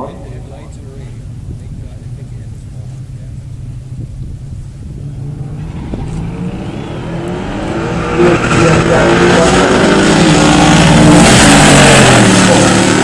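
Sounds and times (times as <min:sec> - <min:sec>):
car engines launching: 0:01.2 - 0:13.0.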